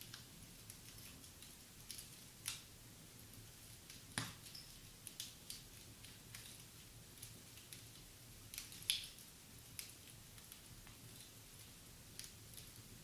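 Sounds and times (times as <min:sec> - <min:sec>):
fire popping: 0:00.0 - 0:13.0
wood fire crackling faintly: 0:00.0 - 0:13.0.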